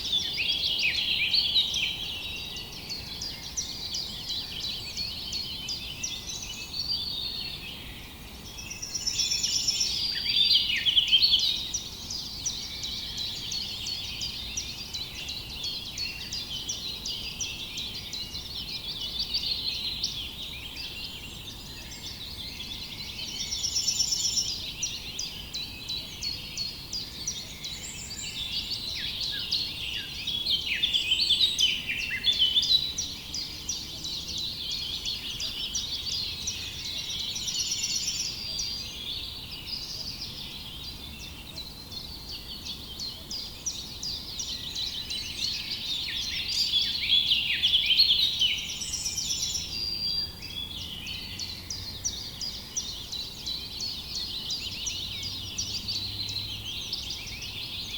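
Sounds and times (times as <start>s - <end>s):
small birds chirping and singing: 0.0s - 57.9s.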